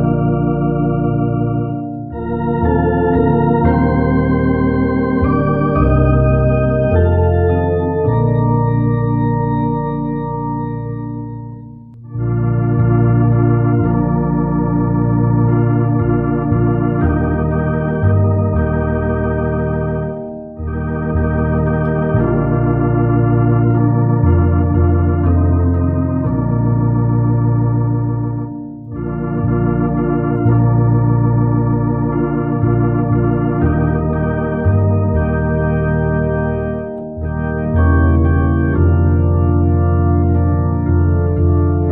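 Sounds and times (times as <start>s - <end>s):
organ playing hymn: 0.0s - 41.9s.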